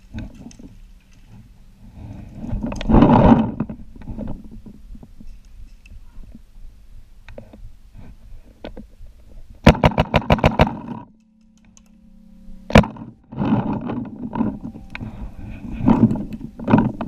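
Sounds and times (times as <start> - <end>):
rough game noise: 0.0 - 17.0.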